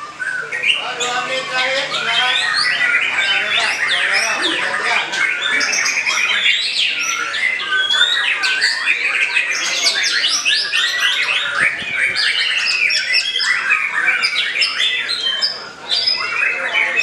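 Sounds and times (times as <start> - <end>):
bird singing rapid whistles and trills: 0.0 - 17.0
other songbirds singing: 0.0 - 17.0.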